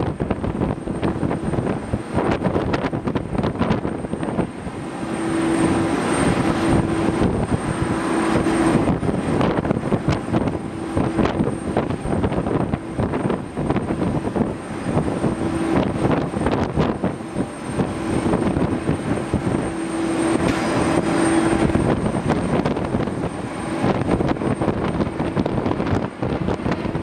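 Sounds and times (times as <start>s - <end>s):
jet engines rushing: 0.0s - 27.0s
low hum: 0.0s - 27.0s.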